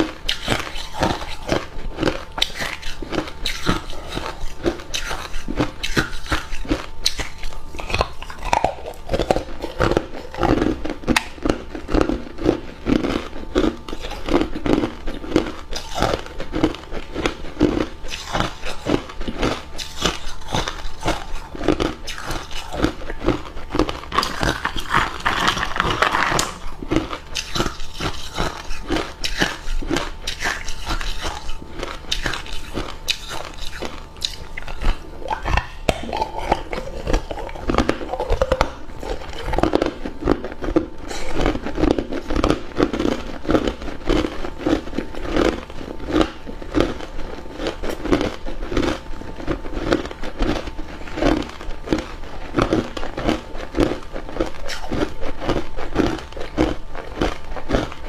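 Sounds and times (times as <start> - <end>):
ice crunching while chewed: 0.0 - 58.0.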